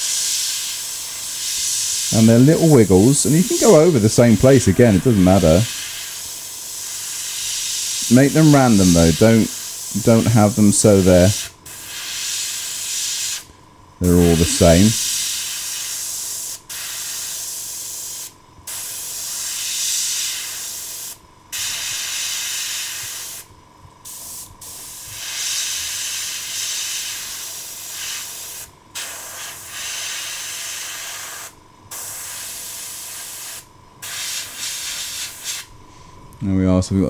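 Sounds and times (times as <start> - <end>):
airbrush hissing: 0.0 - 35.7.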